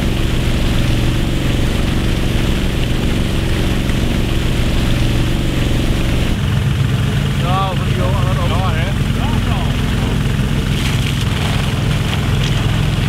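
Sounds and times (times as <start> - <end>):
engine running: 0.0 - 13.0
pumped water gushing and splashing: 0.0 - 13.0.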